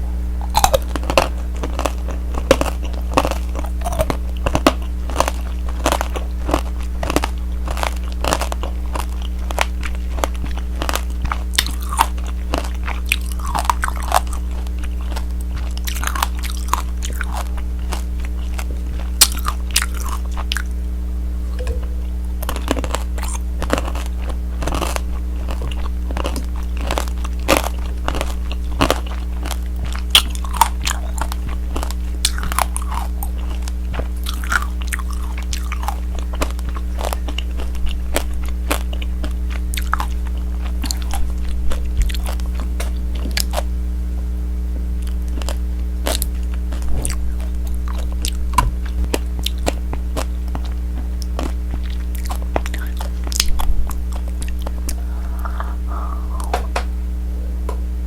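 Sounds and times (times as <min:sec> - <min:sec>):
crunching hard candy: 0:00.0 - 0:20.8, 0:22.4 - 0:43.7, 0:45.0 - 0:56.9
low steady hum: 0:00.0 - 0:58.0.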